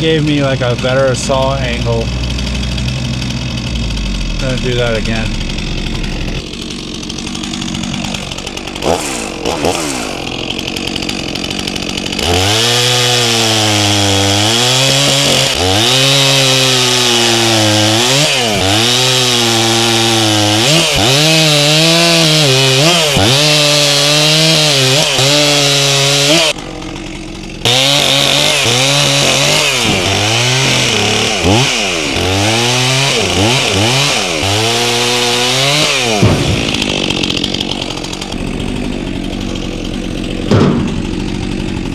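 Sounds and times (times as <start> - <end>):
chainsaw cutting logs: 0.0 - 41.9.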